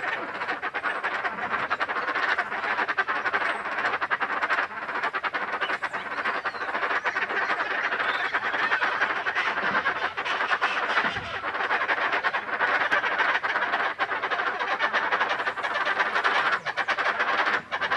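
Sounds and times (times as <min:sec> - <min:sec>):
animal rasping croak-like calls: 0:00.0 - 0:17.9.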